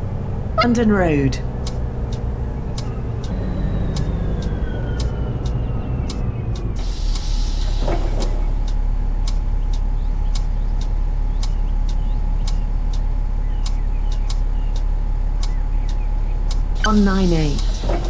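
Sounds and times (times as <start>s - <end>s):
bus engine rumbling: 0.0s - 18.0s
regular sharp ticks: 1.5s - 18.0s.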